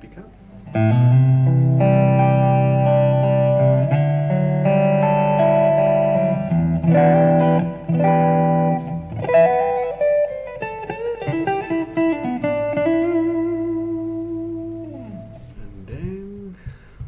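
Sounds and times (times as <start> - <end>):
clean electric guitar playing: 0.0 - 16.7.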